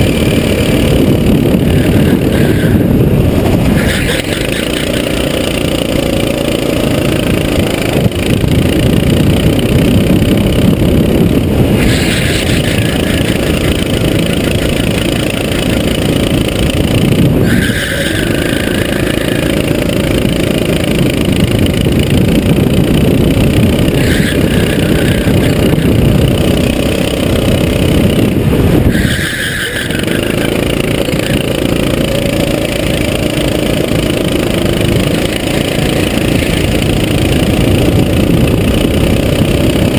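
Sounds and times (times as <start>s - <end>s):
go-kart engine at high revs: 0.0s - 39.9s.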